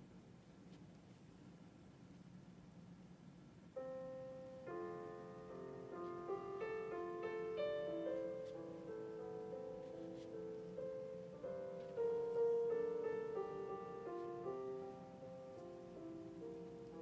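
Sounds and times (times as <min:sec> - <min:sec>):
soft piano chords: 0:02.2 - 0:17.0.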